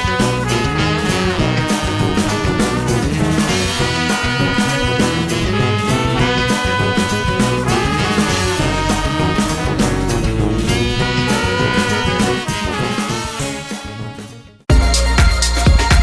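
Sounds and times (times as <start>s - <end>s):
upbeat swing music with brass: 0.0s - 16.0s.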